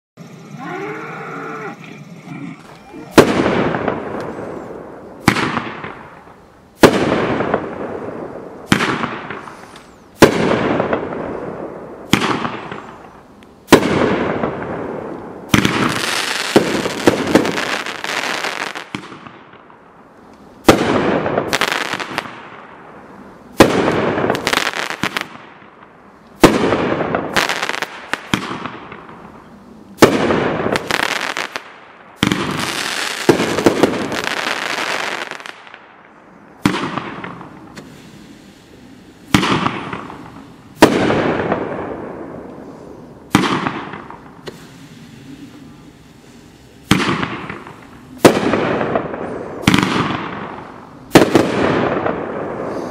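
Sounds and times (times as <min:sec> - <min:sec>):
crackling fizz of fireworks: 0:02.7 - 0:52.9
fireworks bangs: 0:02.9 - 0:13.1, 0:13.7 - 0:19.8, 0:20.6 - 0:22.8, 0:23.5 - 0:35.9, 0:36.5 - 0:52.9.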